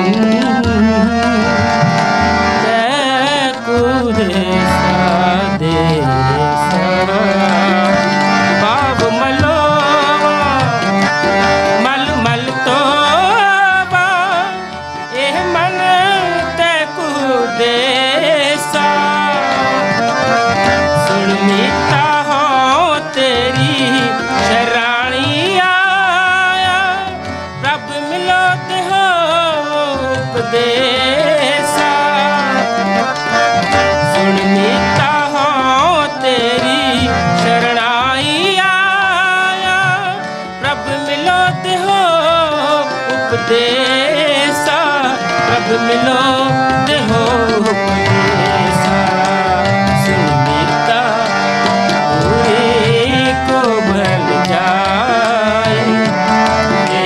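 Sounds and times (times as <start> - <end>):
person singing a devotional hymn: 0.0 - 57.0
tabla: 0.0 - 57.0.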